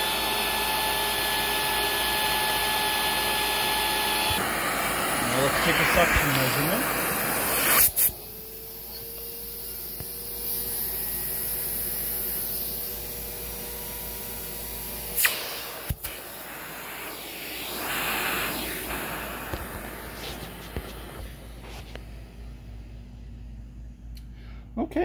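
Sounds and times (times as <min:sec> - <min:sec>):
vacuum motor hiss and whine: 0:00.0 - 0:23.4.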